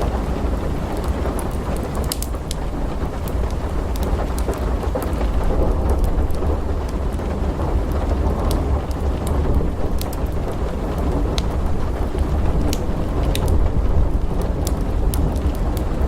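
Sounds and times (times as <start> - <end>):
crackling wood fire: 0.0 - 16.0
heavy rain: 0.0 - 16.0
rolling thunder: 0.0 - 16.0.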